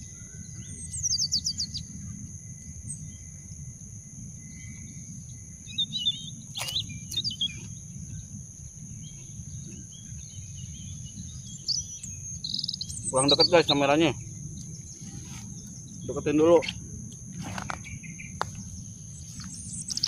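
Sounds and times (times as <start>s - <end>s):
birds chirping: 0.0s - 20.0s
high insect drone: 0.0s - 20.0s.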